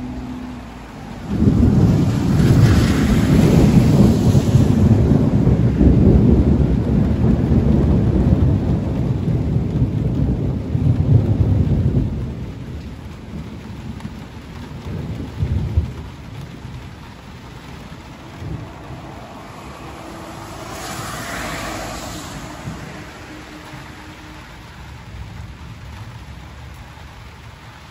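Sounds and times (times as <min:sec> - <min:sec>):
steady rain: 0:00.0 - 0:27.9
thunder rumbling: 0:00.0 - 0:27.9.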